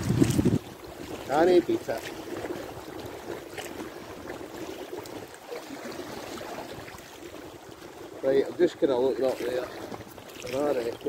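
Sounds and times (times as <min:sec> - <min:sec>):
fast river water rushing: 0:00.0 - 0:11.0.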